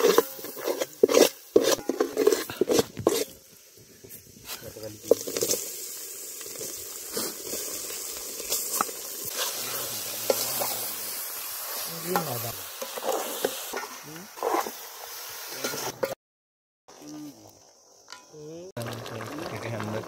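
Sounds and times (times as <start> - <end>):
meat sizzling in hot oil: 0.0 - 16.0, 18.8 - 20.0.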